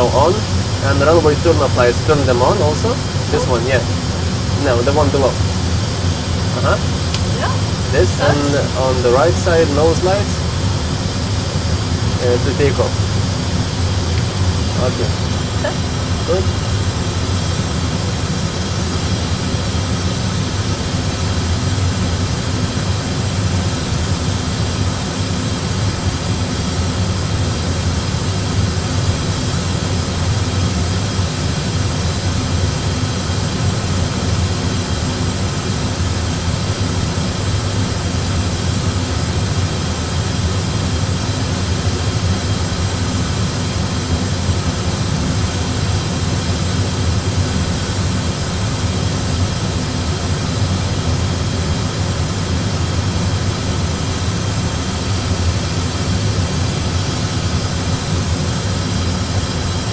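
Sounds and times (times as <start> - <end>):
flight deck air rush and hum: 0.0 - 59.9.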